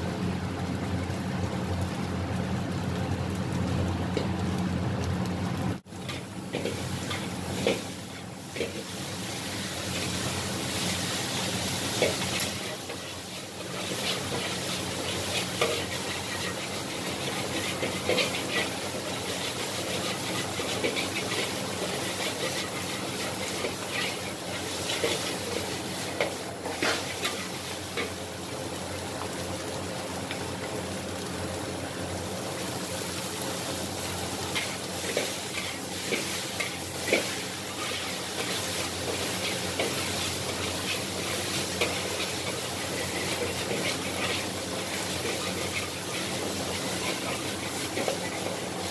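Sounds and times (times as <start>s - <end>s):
noodles sizzling in a wok: 0.0s - 48.9s.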